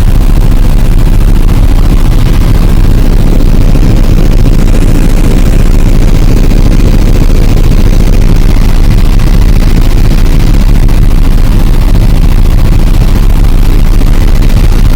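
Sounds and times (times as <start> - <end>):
helicopter rotor and engine din: 0.0 - 14.9.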